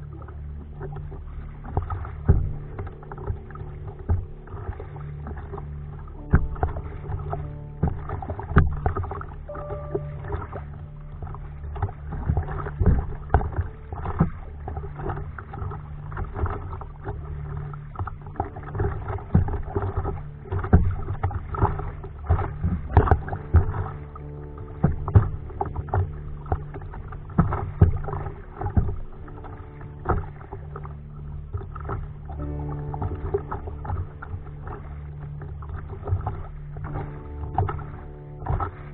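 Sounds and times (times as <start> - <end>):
small waves against hull: 0.0 - 38.9
steady low hum: 0.0 - 38.9
water splashing from paddling: 0.0 - 38.9.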